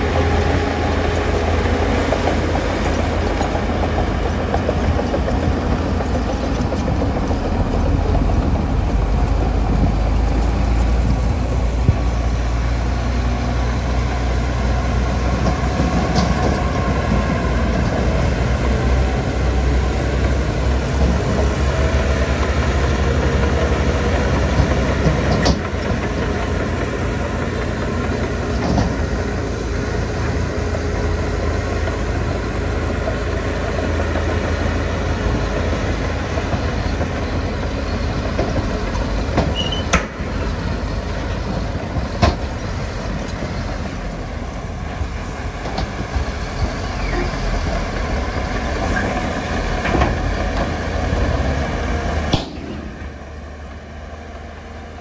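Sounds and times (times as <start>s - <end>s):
bulldozer engine rumbling: 0.0s - 55.0s.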